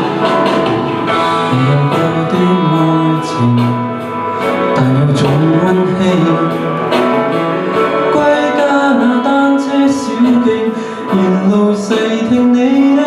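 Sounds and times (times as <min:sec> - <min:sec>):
instrumental backing track: 0:00.0 - 0:13.0
man singing pop ballad: 0:01.1 - 0:13.0.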